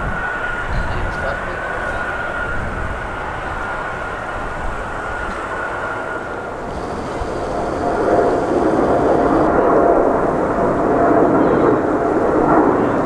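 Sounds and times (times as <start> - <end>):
jet engines at takeoff thrust: 0.0 - 13.0
jet engines taxiing with whine: 0.0 - 13.0.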